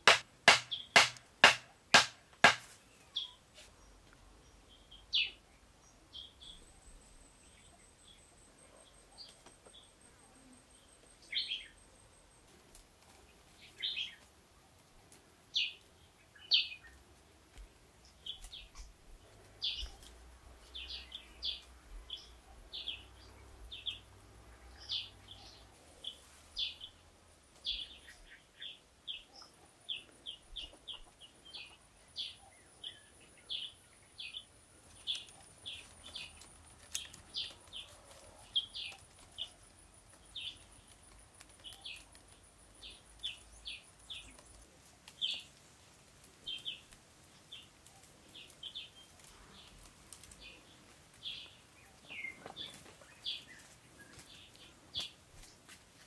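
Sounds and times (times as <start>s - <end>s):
bird chirping: 0.0s - 2.1s, 2.8s - 12.4s, 13.6s - 14.3s, 15.5s - 17.0s, 17.9s - 45.6s, 46.4s - 55.7s.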